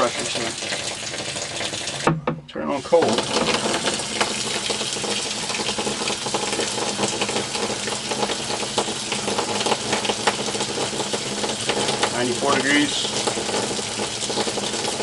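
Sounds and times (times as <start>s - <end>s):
shower water spraying: 2.9s - 15.0s.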